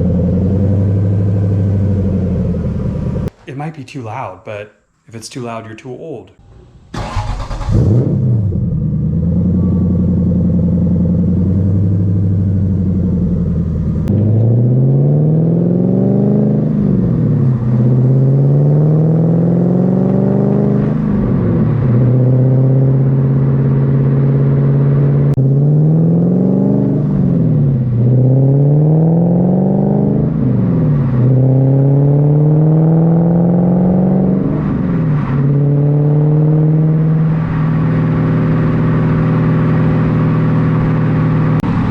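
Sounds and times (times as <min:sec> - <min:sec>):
car engine revving through gears: 0:06.4 - 0:41.9.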